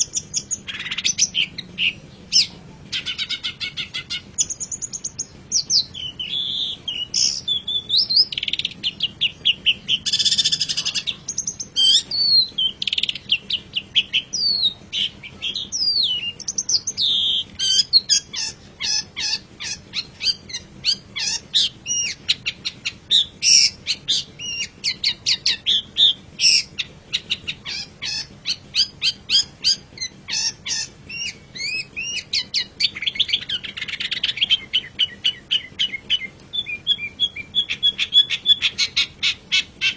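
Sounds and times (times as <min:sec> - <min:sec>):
shrike singing: 0:00.0 - 0:39.9.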